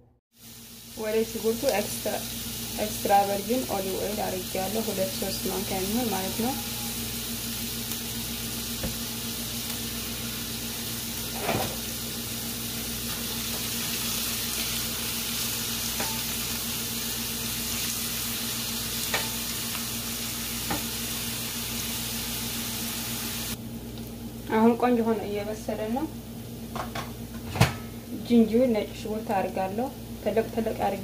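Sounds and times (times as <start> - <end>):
onions sizzling in frying pan: 0.3 - 31.0.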